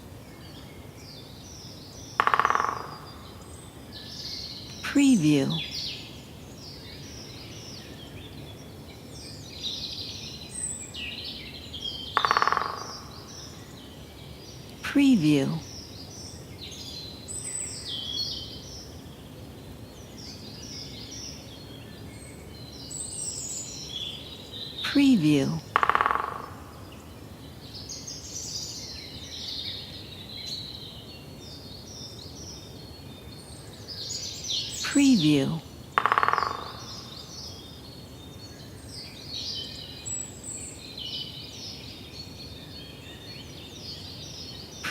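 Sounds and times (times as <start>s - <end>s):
songbirds chirping and whistling: 5.6s - 14.9s, 15.6s - 24.9s, 25.6s - 44.9s.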